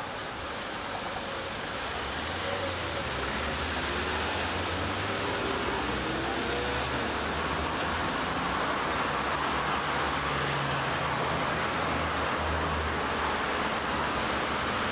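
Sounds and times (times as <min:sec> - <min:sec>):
background traffic noise: 0:00.0 - 0:14.9.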